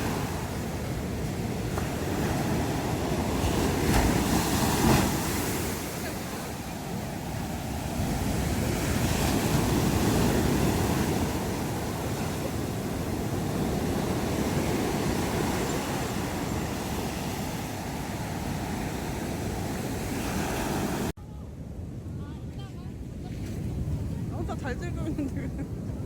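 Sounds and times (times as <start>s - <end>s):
surf breaking on beach: 0.0s - 21.1s
wind buffeting microphone: 0.0s - 26.0s.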